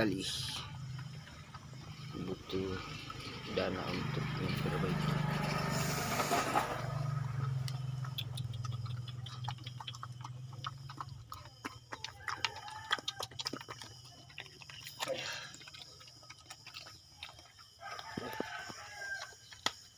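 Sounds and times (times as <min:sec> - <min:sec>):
puppy chewing and lapping: 0:00.2 - 0:19.9.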